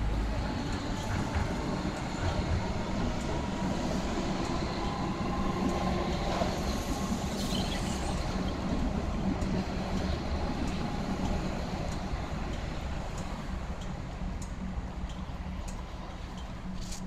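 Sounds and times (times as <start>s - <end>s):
train rumbling over tracks: 0.0s - 17.0s.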